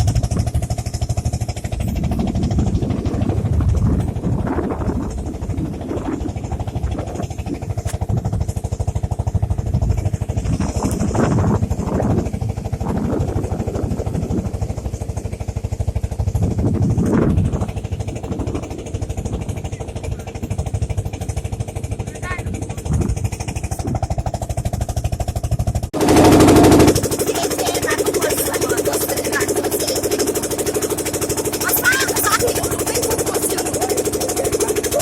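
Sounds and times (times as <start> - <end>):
motorboat engine running: 0.0 - 35.0.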